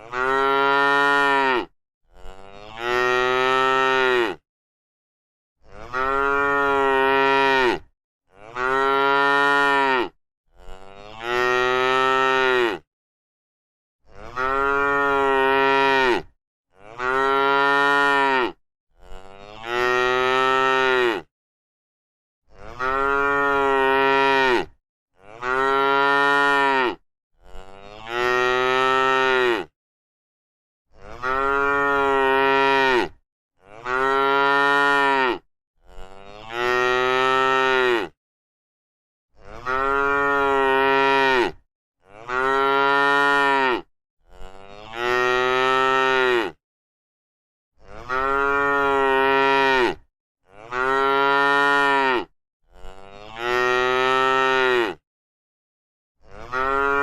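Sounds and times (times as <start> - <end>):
cow mooing: 0.0 - 4.4, 5.6 - 12.9, 14.2 - 21.3, 22.5 - 29.7, 31.0 - 38.2, 39.4 - 46.6, 47.8 - 55.0, 56.3 - 57.0.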